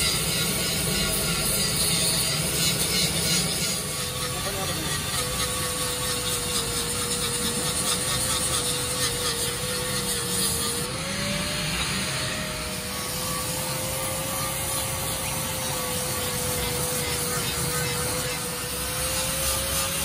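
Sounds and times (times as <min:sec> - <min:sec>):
angle grinder grinding steel: 0:00.0 - 0:20.0.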